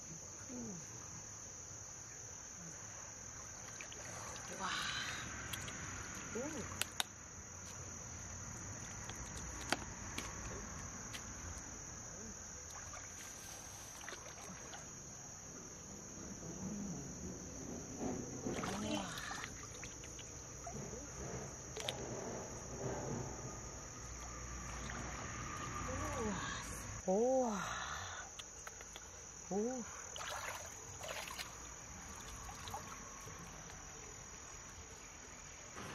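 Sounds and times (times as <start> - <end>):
insects droning: 0.0 - 35.9
water sloshing from wading: 3.0 - 11.6, 12.6 - 15.8, 17.2 - 27.0, 28.4 - 35.9.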